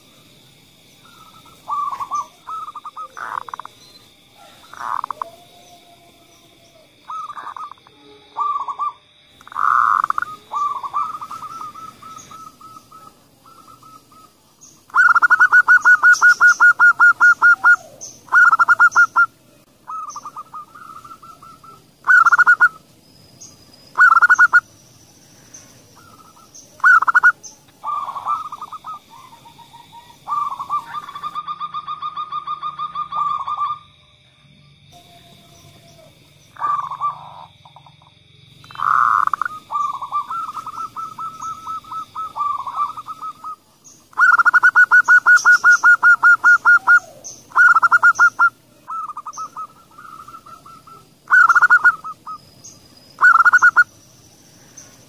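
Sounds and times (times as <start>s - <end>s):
doves cooing and trilling: 0.9s - 22.8s, 23.4s - 33.9s, 35.0s - 55.0s
faint high chirps: 1.0s - 55.0s.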